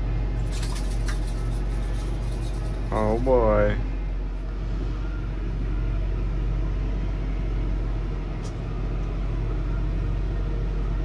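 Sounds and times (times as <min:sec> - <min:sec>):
tracked vehicle engine idling: 0:00.0 - 0:11.0.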